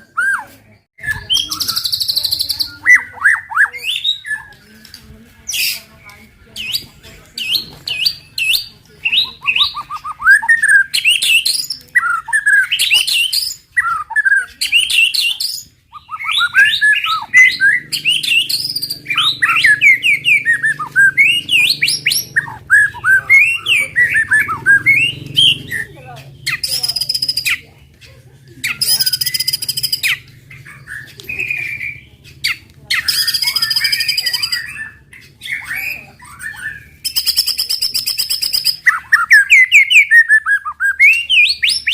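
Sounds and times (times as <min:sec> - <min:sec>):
bird singing whistled notes: 0:00.0 - 0:27.6, 0:28.5 - 0:41.9
harsh buzzy bird calls: 0:05.4 - 0:41.9.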